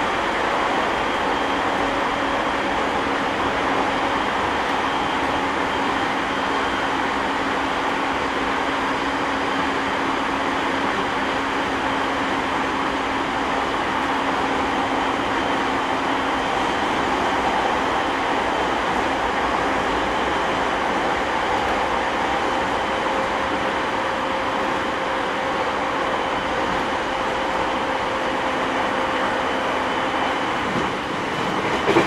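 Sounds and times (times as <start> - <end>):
train wheel and rail noise: 0.0 - 32.0.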